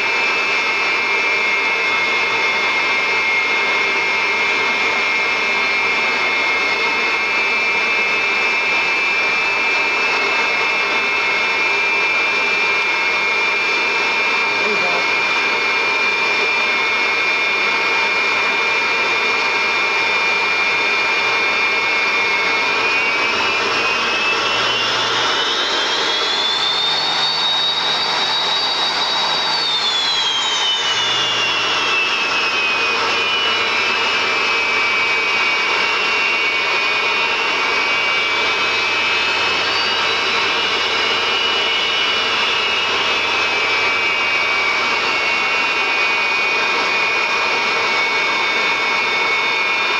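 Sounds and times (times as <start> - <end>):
jet engine whine: 0.0 - 49.9.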